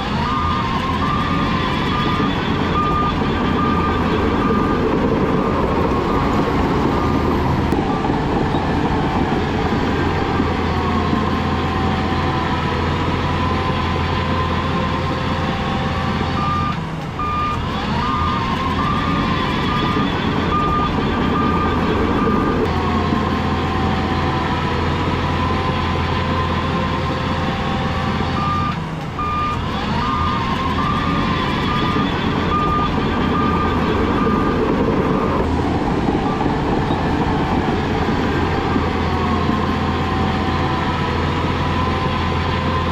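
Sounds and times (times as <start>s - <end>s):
heavy diesel machinery running: 0.0s - 42.9s
reversing alarm beeping: 0.0s - 42.9s.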